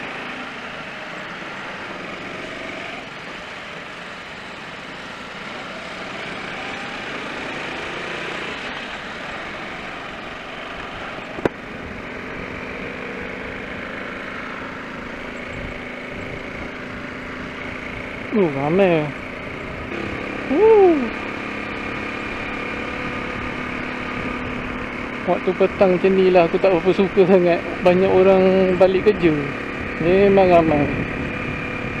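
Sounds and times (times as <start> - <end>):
motorcycle engine running: 0.0 - 32.0
road noise: 0.0 - 32.0.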